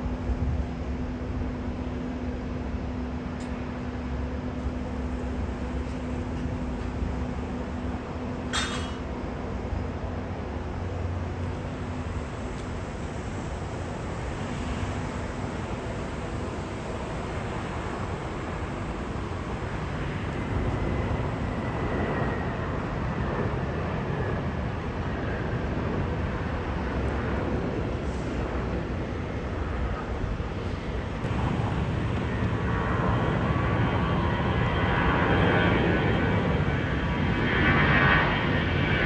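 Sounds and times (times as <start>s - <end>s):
high engine whine: 0.0s - 39.0s
jet engines rumbling: 0.0s - 39.0s.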